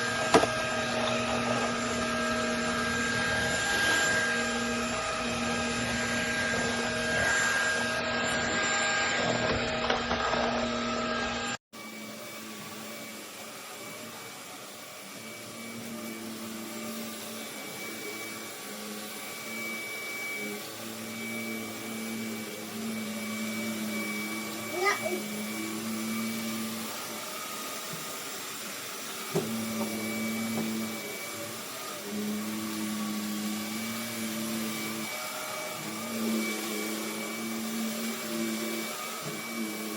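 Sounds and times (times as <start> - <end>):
quieter vacuum whine: 0.0 - 39.9
vacuum cleaner motor whine: 0.0 - 39.9.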